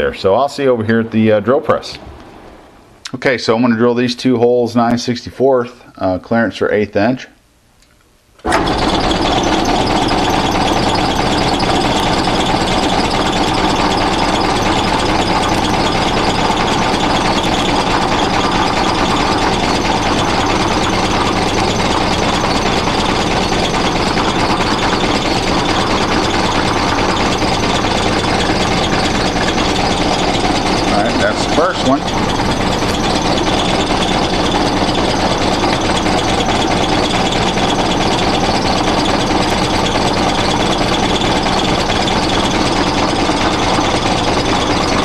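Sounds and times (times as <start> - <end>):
drill bit drilling into aluminum: 8.4 - 45.0
drill press running: 8.4 - 45.0.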